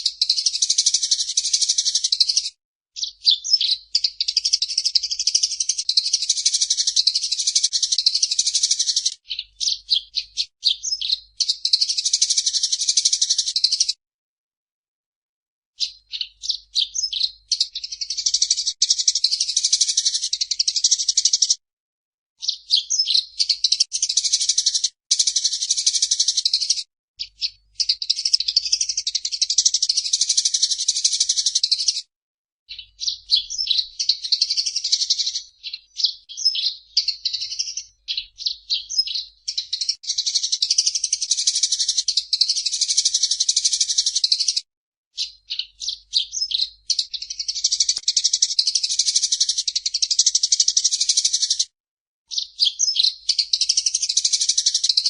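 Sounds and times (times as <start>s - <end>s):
sparrow chattering high chirps: 0.0s - 14.0s, 15.8s - 21.6s, 22.4s - 32.1s, 32.7s - 44.6s, 45.2s - 51.7s, 52.3s - 55.0s.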